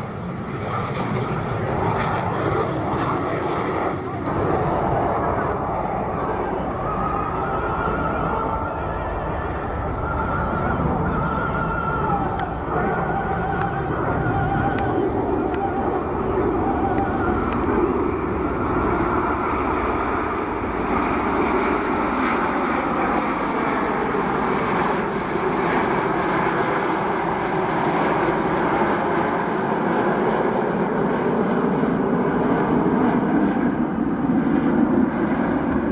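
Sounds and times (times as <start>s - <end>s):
airplane engine noise: 0.0s - 35.9s.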